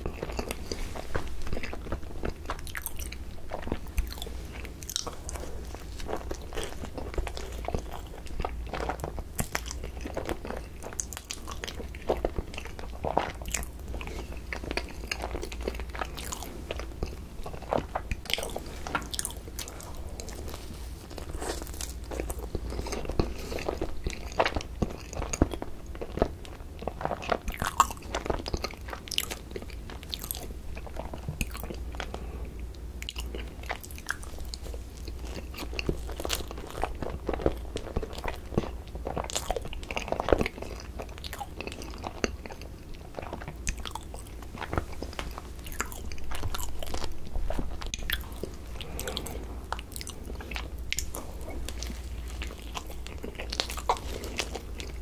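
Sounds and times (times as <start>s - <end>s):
wet chewing mouth sounds: 0.0s - 55.0s.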